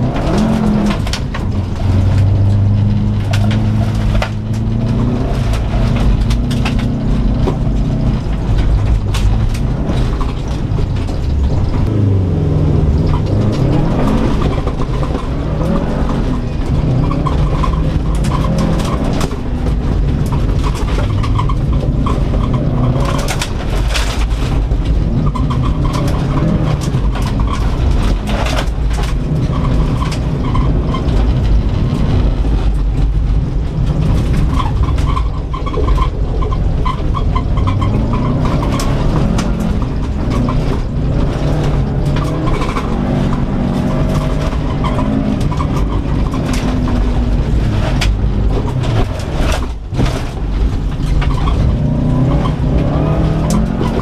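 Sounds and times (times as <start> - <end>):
car engine revving: 0.0 - 54.0
tyre noise: 0.0 - 54.0.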